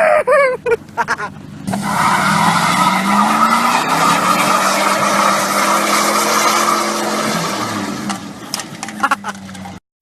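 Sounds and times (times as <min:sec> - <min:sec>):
truck engine revving: 0:01.0 - 0:09.8
tires squealing: 0:01.2 - 0:09.8.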